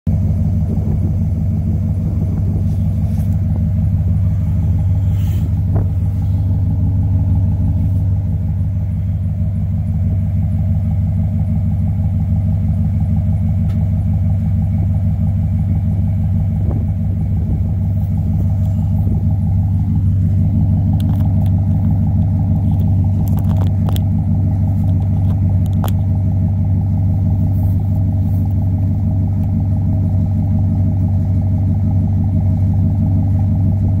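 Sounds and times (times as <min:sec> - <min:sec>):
truck exhaust idling: 0:00.1 - 0:34.0.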